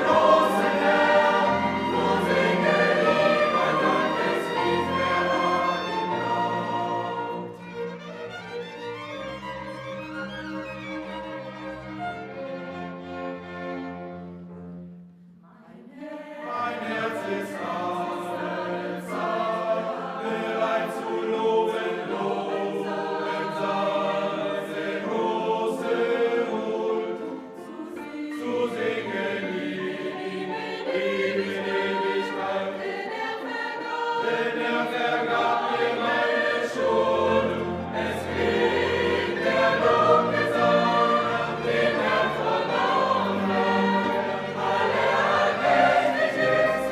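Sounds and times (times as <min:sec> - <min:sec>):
choir singing: 0:00.0 - 0:46.9
string music: 0:00.0 - 0:46.9.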